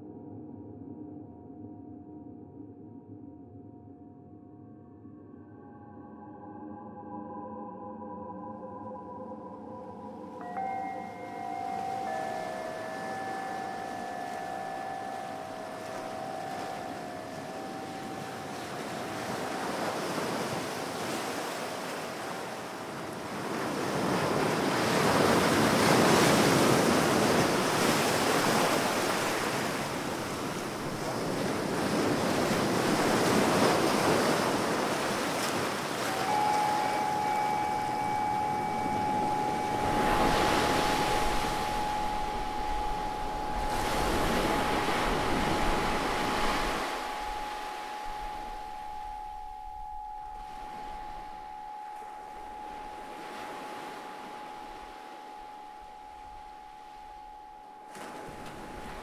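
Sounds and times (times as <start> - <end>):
steady sustained tones: 5.0 - 34.6, 35.8 - 59.0
ocean surf washing in: 10.8 - 59.0.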